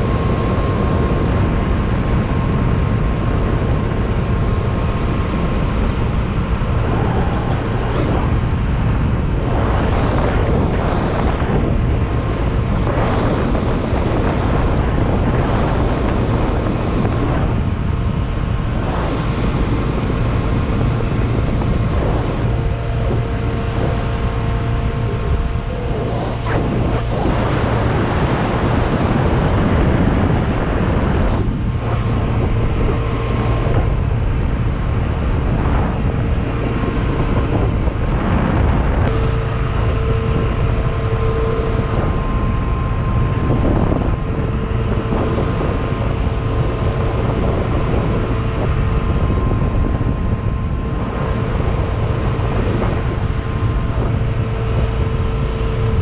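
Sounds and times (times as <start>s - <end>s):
boat engine droning: 0.0s - 56.0s
wind buffeting microphone: 0.0s - 56.0s.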